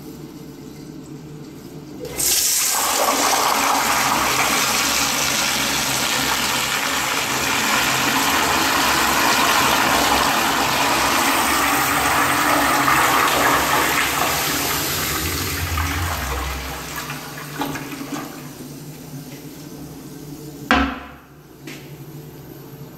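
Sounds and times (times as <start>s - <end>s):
toilet flushing: 1.9s - 20.7s.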